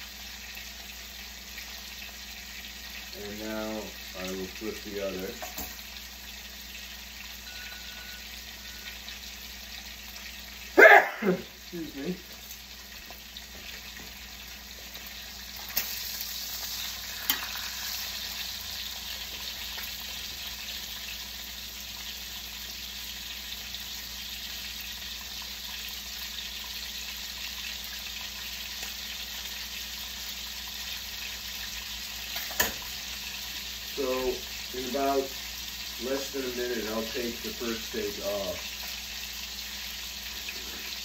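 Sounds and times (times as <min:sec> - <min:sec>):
steaks sizzling in a frying pan: 0:00.0 - 0:10.8, 0:11.4 - 0:41.0.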